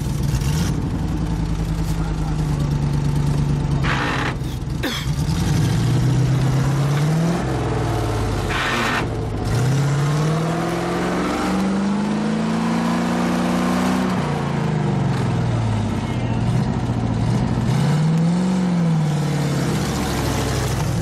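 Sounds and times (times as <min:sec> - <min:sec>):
engine revving under load: 0:03.8 - 0:21.0.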